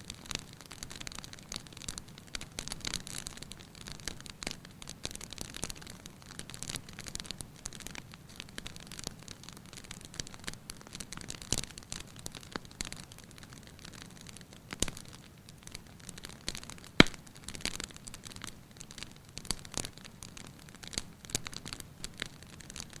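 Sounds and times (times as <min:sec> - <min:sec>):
fire snapping and popping: 0:00.0 - 0:23.0
low sound of flames: 0:00.0 - 0:23.0.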